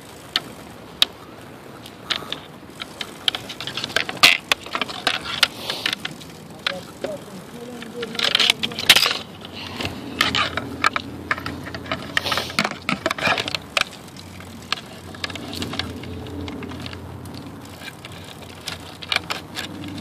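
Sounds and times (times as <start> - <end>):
bicycle rattling and clicking: 0.0 - 20.0
bicycle rolling on concrete: 0.0 - 20.0.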